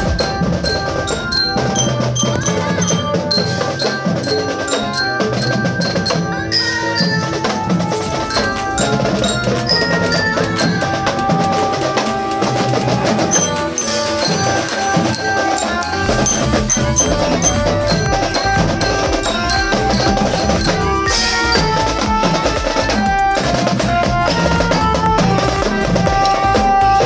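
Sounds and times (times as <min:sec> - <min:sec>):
drums: 0:00.0 - 0:27.0
mallet percussion: 0:00.0 - 0:27.0.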